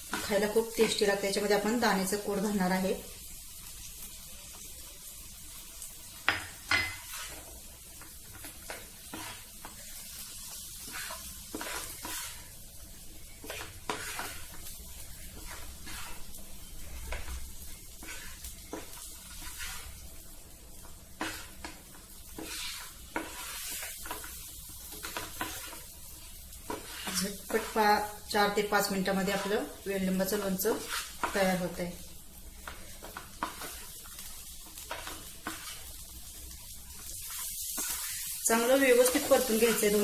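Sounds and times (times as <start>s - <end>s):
hot oil sizzling: 0.0s - 40.0s
wooden spatula scraping a pan: 6.3s - 20.1s, 21.1s - 40.0s.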